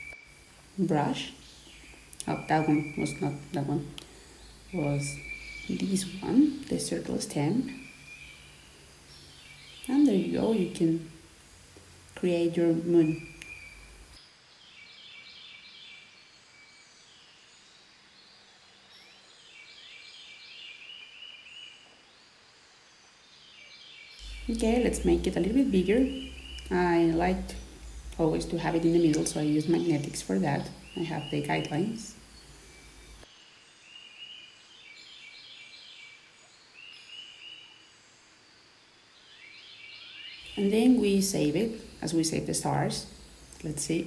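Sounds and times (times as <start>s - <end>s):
high chirping birdsong: 0.0s - 44.0s
low room hiss: 0.0s - 44.0s.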